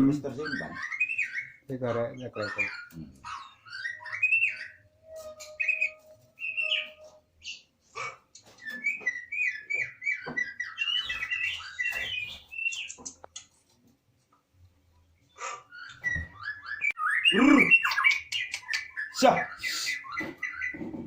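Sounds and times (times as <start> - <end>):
songbird singing: 0.0 - 13.5, 15.0 - 21.0.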